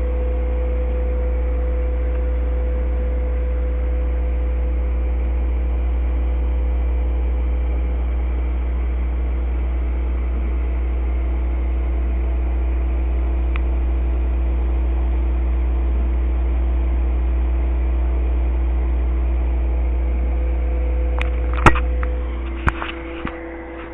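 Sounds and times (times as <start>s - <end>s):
air pump humming: 0.0s - 23.9s.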